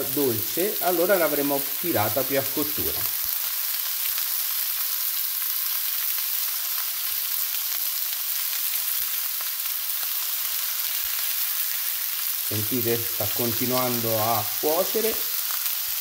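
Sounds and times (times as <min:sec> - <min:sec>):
steaks sizzling in a frying pan: 0:00.0 - 0:16.0.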